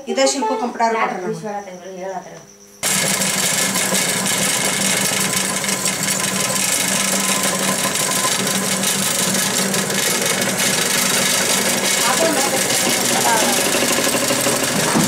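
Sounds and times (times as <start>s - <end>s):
mill grinding grain: 2.8s - 15.0s
motor hum: 2.8s - 15.0s.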